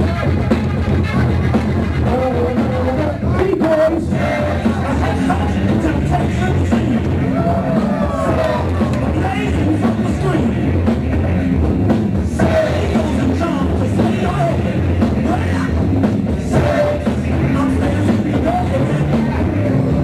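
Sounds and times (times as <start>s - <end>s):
breakbeat music with drums and bass: 0.0s - 20.0s
singing vocal: 2.0s - 11.5s, 12.2s - 20.0s.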